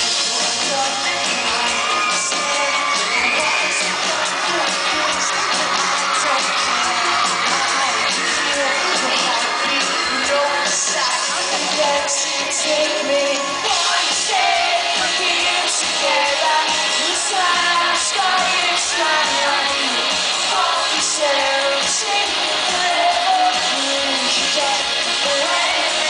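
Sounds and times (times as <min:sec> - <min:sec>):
drums with cymbal hits: 0:00.0 - 0:26.0
electric guitars: 0:00.0 - 0:26.0
person singing lead: 0:00.0 - 0:26.0.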